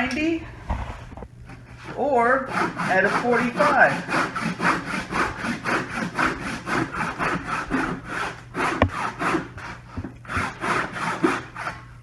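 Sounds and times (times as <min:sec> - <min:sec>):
handsaw cutting wood: 0:01.8 - 0:12.0.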